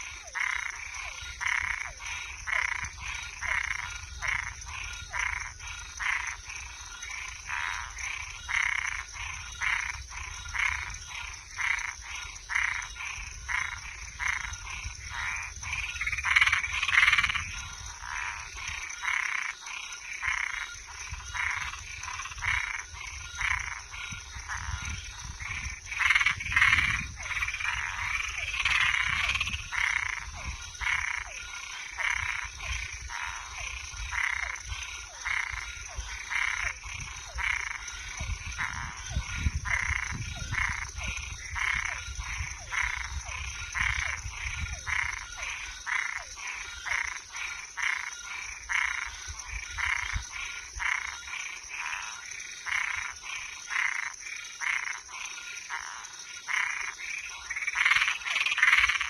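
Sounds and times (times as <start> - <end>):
frogs calling: 0.0 - 59.0.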